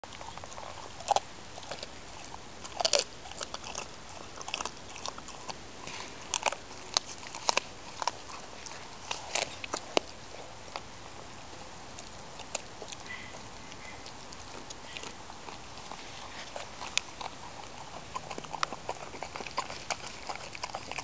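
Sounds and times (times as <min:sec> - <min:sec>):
bones crunching: 0:00.0 - 0:10.9, 0:12.0 - 0:21.0
dog chewing: 0:00.0 - 0:21.0.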